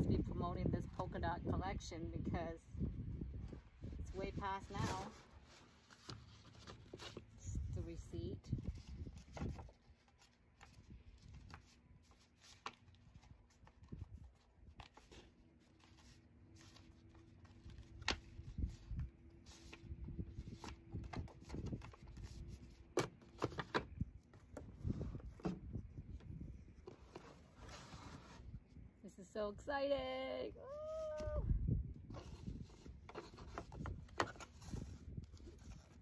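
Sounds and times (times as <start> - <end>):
cardboard and paper rustling: 3.6 - 28.8, 32.0 - 36.0.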